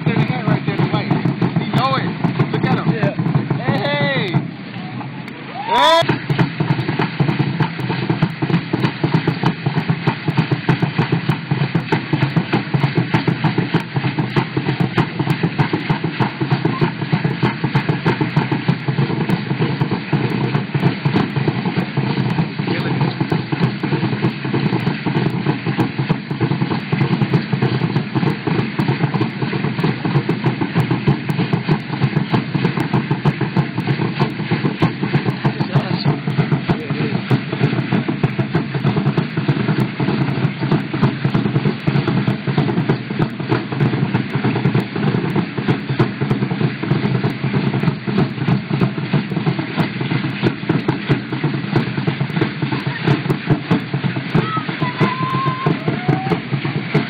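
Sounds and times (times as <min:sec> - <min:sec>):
fast steady drumming: 0:00.0 - 0:57.0.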